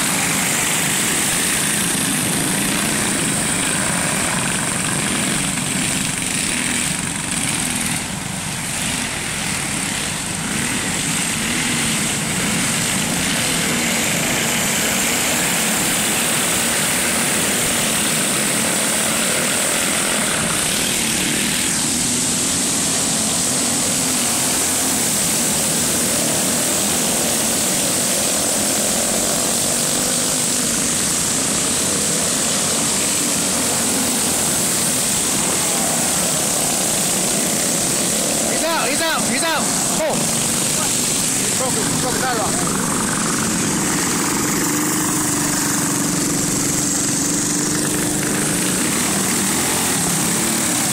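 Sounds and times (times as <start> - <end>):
go-kart engines droning: 0.0 - 50.9.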